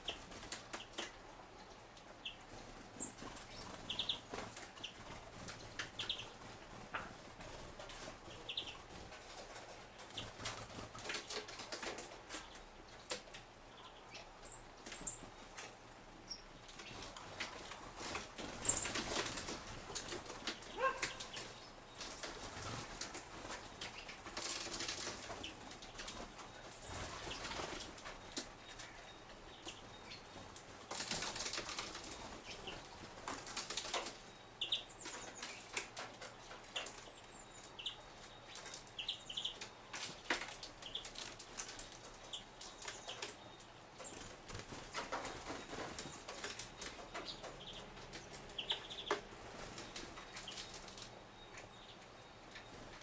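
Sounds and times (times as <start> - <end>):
small birds fluttering wings: 0.0 - 1.2, 2.5 - 13.4, 16.6 - 51.2.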